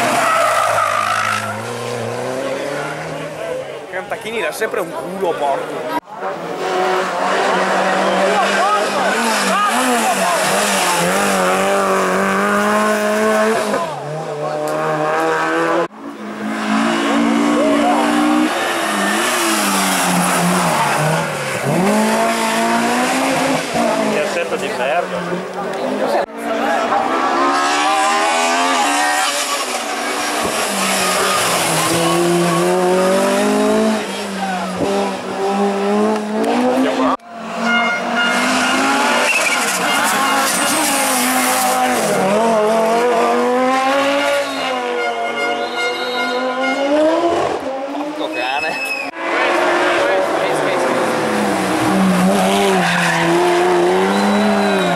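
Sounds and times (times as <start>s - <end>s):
race car engine at high revs: 0.0s - 48.4s, 49.0s - 54.9s
second engine at high revs: 5.7s - 45.6s, 46.2s - 48.3s, 49.1s - 54.9s.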